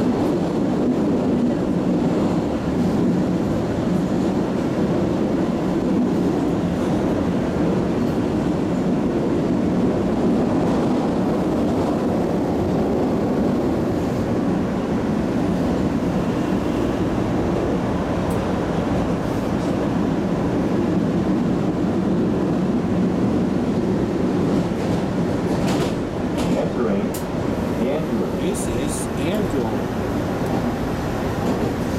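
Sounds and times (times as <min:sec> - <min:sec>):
subway wheels rumbling on rail: 0:00.0 - 0:31.9.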